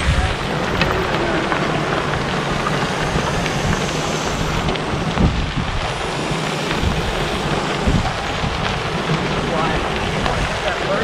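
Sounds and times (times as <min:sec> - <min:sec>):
bicycle tyres crunching on gravel: 0:00.0 - 0:11.0
wind buffeting microphone: 0:00.0 - 0:11.0.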